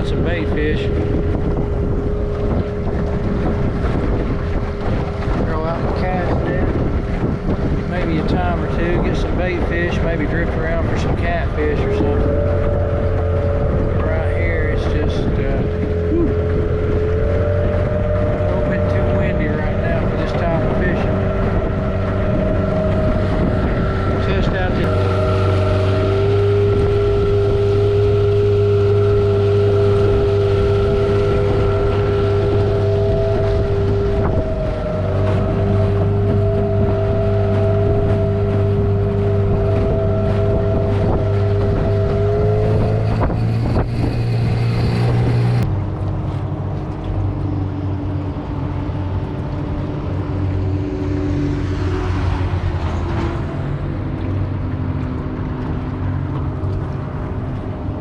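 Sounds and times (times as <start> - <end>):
outboard motor running: 0.0 - 58.0
wind buffeting microphone: 0.0 - 58.0.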